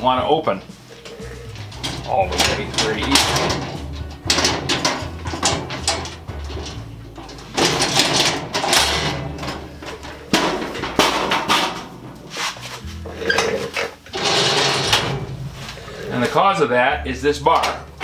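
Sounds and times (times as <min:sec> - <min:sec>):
scraping grinding metal: 0:00.0 - 0:18.0
filing cabinet drawer opening and shutting: 0:01.5 - 0:16.4.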